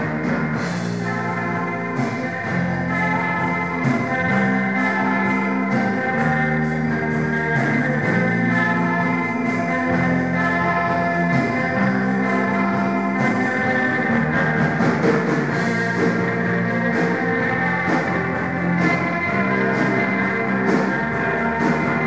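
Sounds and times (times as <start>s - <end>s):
bass guitar: 0.0s - 22.0s
drum kit: 0.0s - 22.0s
electric guitar: 0.0s - 22.0s
held keyboard chords: 0.0s - 22.0s.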